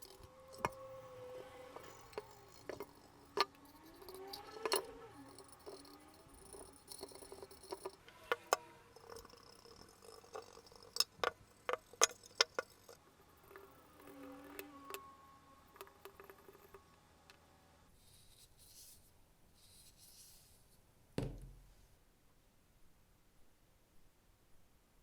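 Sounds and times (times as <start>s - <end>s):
faint squeaks: 0.0s - 20.8s.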